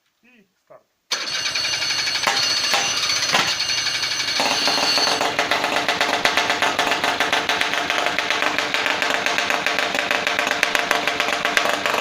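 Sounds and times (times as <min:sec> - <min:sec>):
two-stroke engine running: 0:01.1 - 0:12.0.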